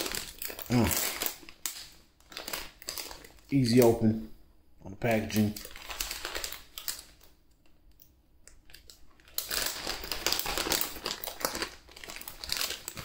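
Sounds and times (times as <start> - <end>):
plastic packaging crinkling: 0.0 - 4.1, 5.1 - 7.4, 8.5 - 13.0.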